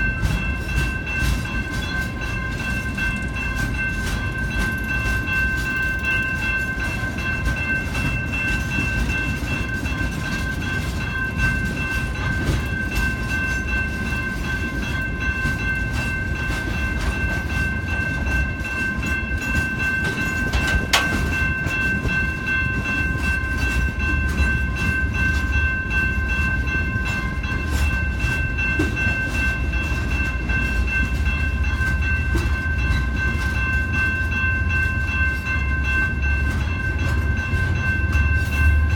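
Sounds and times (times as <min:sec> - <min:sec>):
train cars rumbling past: 0:00.0 - 0:38.9.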